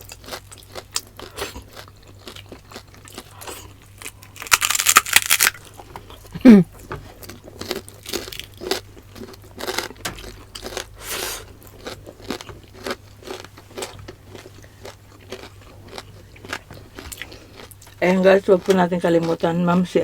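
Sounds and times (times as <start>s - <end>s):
person chewing food: 0.0s - 19.4s.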